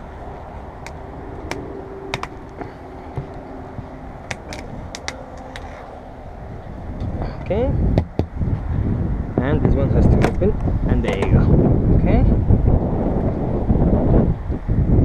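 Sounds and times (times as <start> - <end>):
steady background hum: 0.0 - 14.6.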